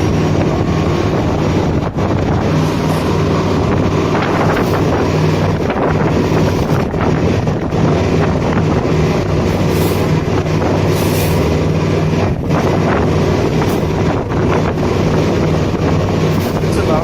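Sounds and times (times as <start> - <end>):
boat engine droning: 0.0 - 17.0
wind gusting over microphone: 0.0 - 17.0.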